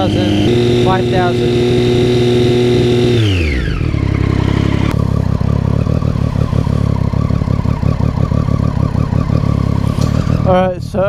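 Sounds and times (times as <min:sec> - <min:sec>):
motorcycle engine idling: 0:00.0 - 0:11.0
motorcycle engine revving: 0:00.0 - 0:11.0.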